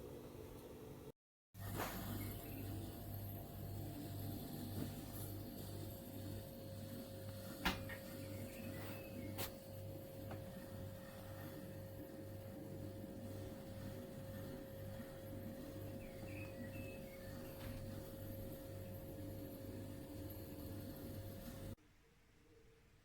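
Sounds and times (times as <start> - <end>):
pulsing fridge hum: 0.0 - 21.8.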